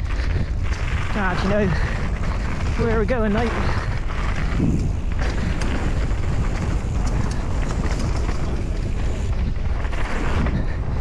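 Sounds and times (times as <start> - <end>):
bike clicks and rattles: 0.0 - 11.0
bike tyres on dirt: 0.0 - 11.0
wind rushing over microphone: 0.0 - 11.0.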